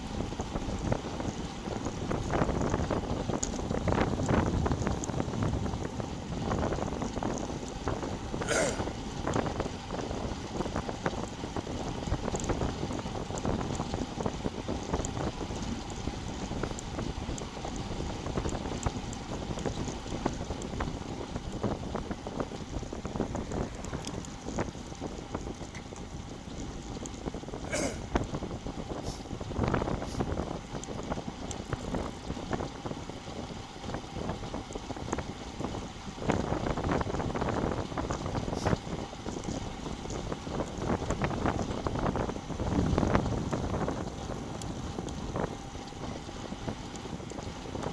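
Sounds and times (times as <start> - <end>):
wind buffeting microphone: 0.0 - 47.9
small clicks from bike: 0.1 - 47.9.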